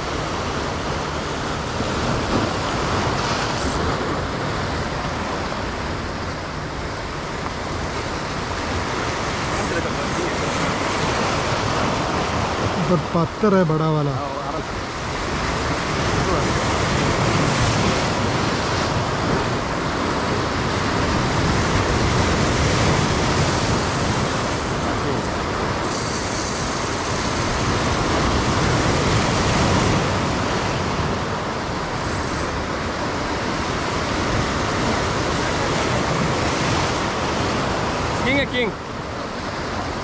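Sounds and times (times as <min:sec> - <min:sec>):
sea waves: 0:00.0 - 0:40.0
wind: 0:00.0 - 0:40.0.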